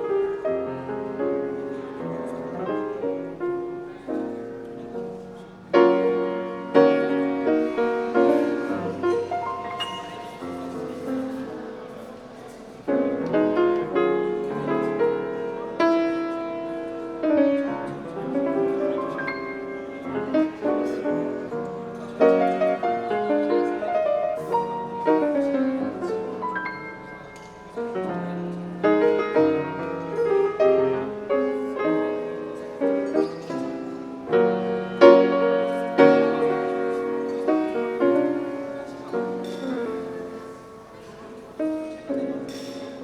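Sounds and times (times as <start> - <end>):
piano playing jazz: 0.0 - 43.0.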